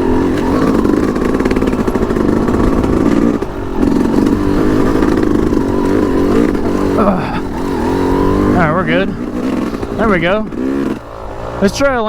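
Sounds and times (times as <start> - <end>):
dirt bike engine at low revs: 0.0 - 12.0.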